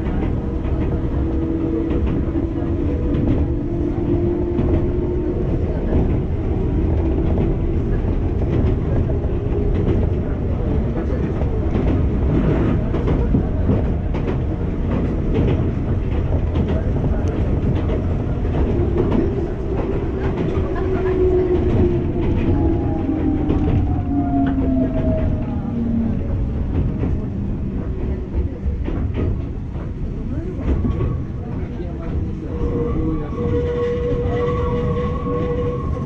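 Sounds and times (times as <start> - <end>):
train wheels clicking over rails: 0.0 - 36.0.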